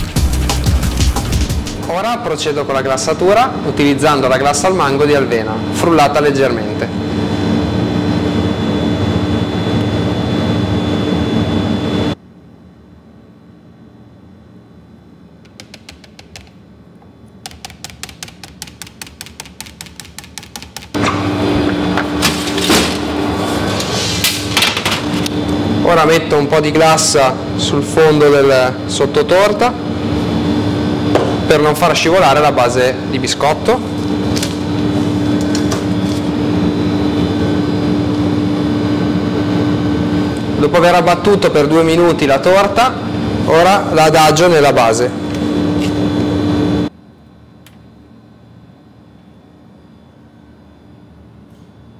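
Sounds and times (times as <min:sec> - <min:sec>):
machine humming: 0:00.0 - 0:12.2, 0:14.0 - 0:47.0.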